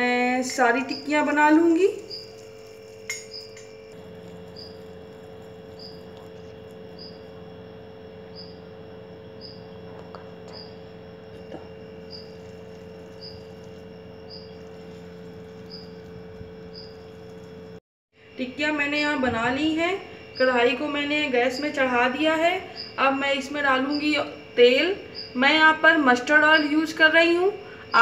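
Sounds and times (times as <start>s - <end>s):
cricket chirping: 0.0s - 28.0s
low electrical hum: 0.0s - 28.0s.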